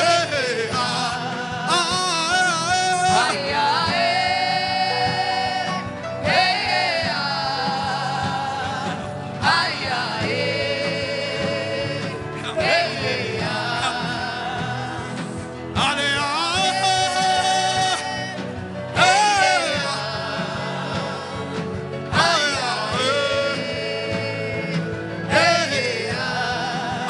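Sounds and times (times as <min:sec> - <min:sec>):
instrumental backing music: 0:00.0 - 0:27.0
voices singing long notes: 0:00.0 - 0:27.0.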